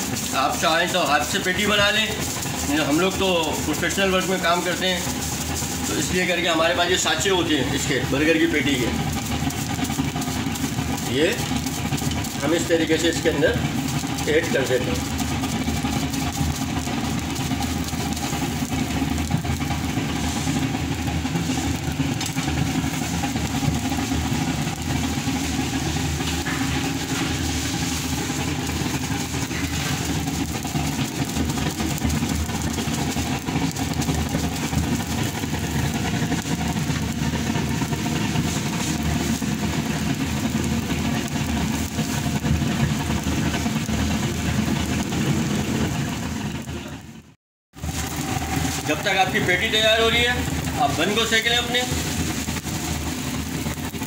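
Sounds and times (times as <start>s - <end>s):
low mechanical drone: 0.0s - 54.0s.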